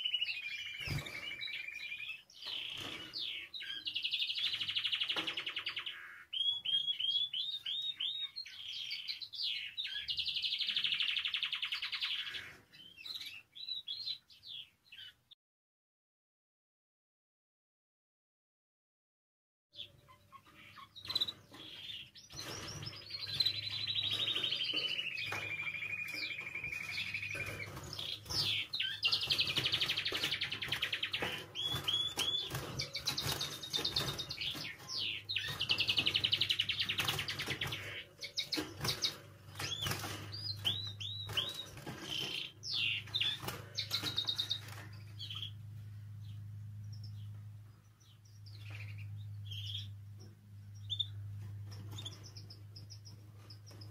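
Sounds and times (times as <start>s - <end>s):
canary singing trills: 0.0s - 15.3s, 19.8s - 53.9s.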